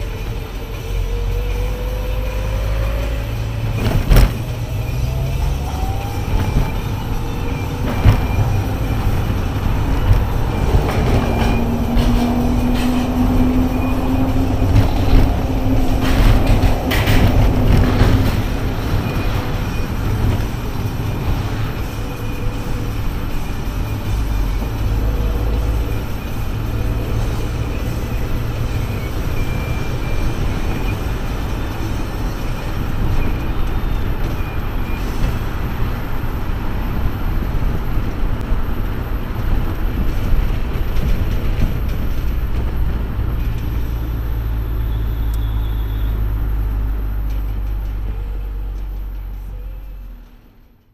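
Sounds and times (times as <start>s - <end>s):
tyre and wind rumble: 0.0s - 49.7s
car engine driving: 0.0s - 50.9s
road traffic: 0.0s - 50.9s.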